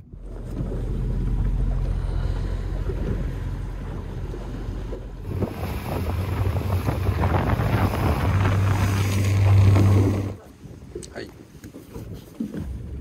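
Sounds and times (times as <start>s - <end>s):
boat engine humming: 0.0s - 11.0s
water noise: 0.0s - 13.0s
wind buffeting microphone: 0.0s - 13.0s.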